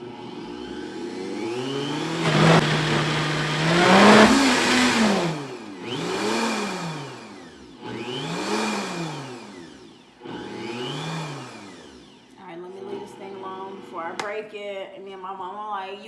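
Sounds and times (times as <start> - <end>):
blender motor whining: 0.0 - 14.2.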